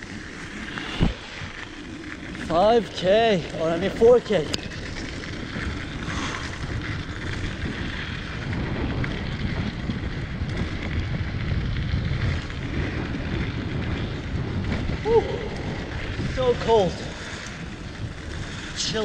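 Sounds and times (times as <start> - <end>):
bike rolling on dirt trail: 0.0 - 19.0
wind buffeting microphone: 0.0 - 19.0.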